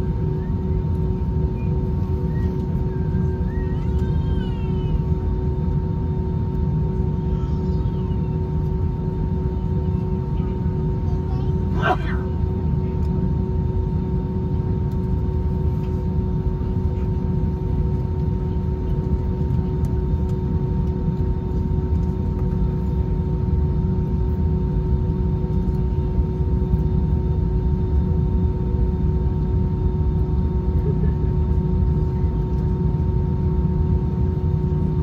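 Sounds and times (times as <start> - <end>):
aircraft cabin engine rumble: 0.0 - 35.0
steady hums: 0.0 - 35.0.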